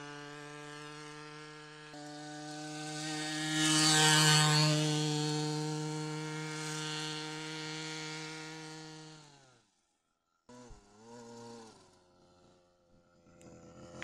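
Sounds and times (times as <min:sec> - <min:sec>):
chainsaw engine revving: 0:00.0 - 0:09.8, 0:10.5 - 0:14.0.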